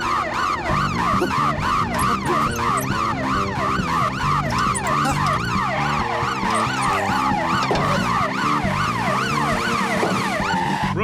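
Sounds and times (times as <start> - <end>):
cartoon chase music: 0.0 - 11.0
siren-like yelp: 0.0 - 11.0.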